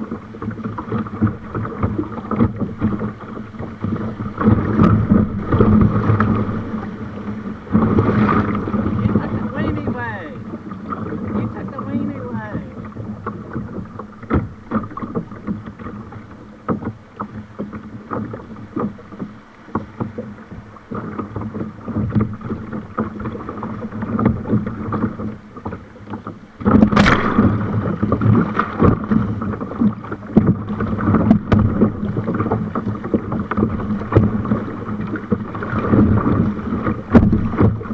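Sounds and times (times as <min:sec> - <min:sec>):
water splashing around kayak: 0:00.0 - 0:37.9.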